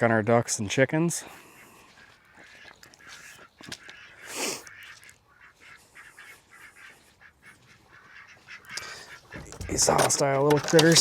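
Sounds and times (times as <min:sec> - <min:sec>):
ducks quacking: 0:01.2 - 0:11.0.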